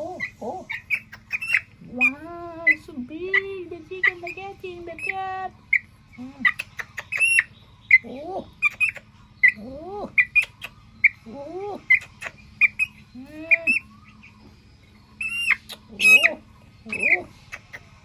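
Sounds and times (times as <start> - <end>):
birds chirping: 0.0 - 18.0
low rising and falling bird call: 0.0 - 18.0.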